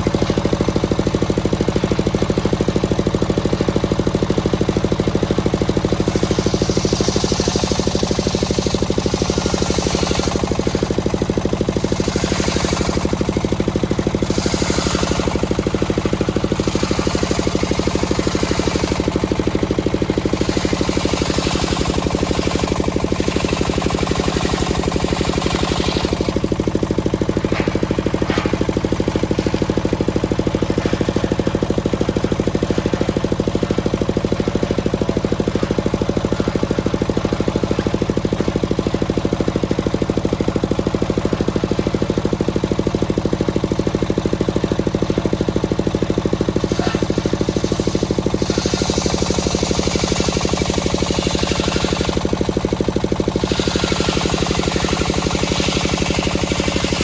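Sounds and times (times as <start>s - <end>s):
engine running: 0.0s - 57.0s
circular saw blade cutting log: 0.1s - 39.4s, 45.1s - 57.0s.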